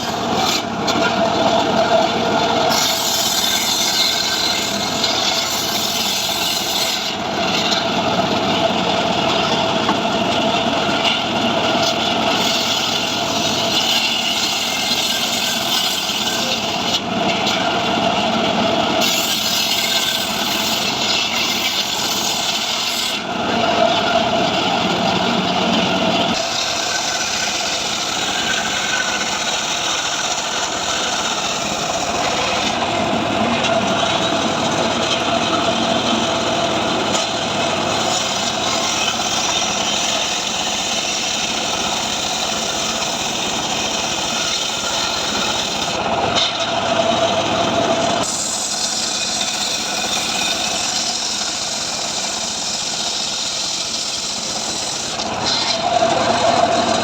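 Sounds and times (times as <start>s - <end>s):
chainsaw sawing through wood: 0.0s - 9.2s, 10.0s - 57.0s.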